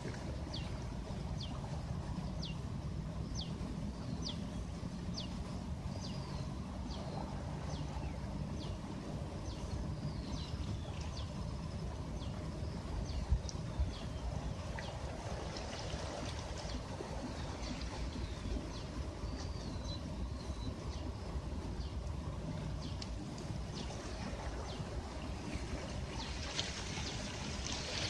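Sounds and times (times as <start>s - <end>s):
low rumble of wind and water: 0.0s - 28.0s.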